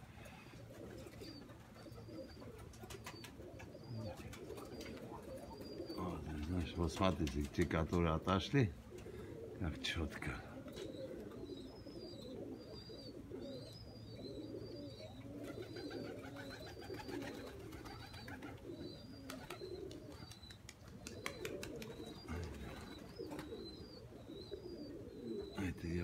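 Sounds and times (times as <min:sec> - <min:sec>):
pigeons cooing: 0:00.0 - 0:26.0
small bird chirping: 0:00.9 - 0:07.7, 0:10.8 - 0:26.0.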